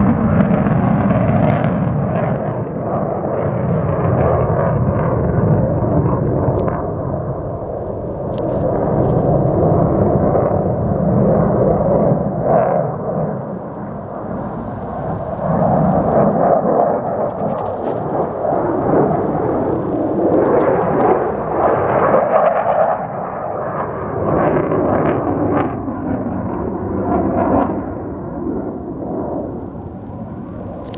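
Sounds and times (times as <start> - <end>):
jet aircraft flying overhead: 0.0 - 30.9.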